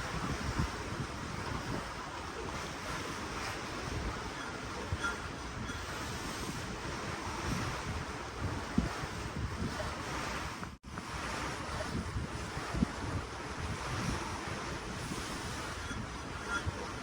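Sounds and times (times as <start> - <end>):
ocean water washing: 0.0 - 17.0
wind buffeting microphone: 0.0 - 17.0.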